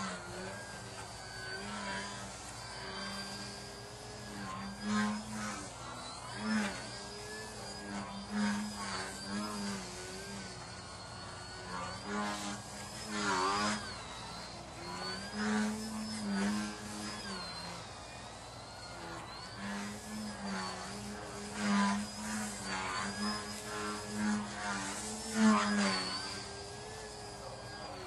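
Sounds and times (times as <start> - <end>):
rc plane motor buzzing: 0.0 - 28.0
thin high whine: 0.0 - 28.0.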